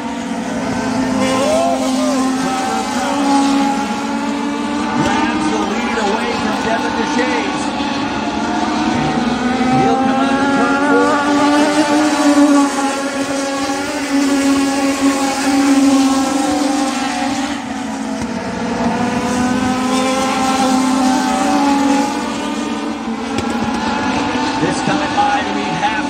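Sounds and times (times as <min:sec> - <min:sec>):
race car engines high-revving drone: 0:00.0 - 0:26.0.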